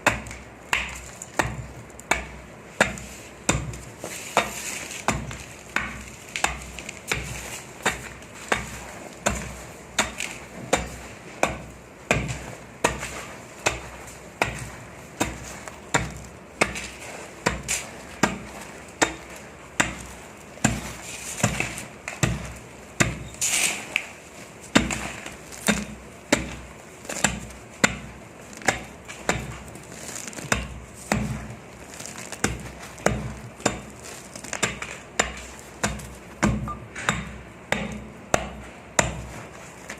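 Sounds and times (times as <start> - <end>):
sand clumps crunching: 0.0 - 36.6.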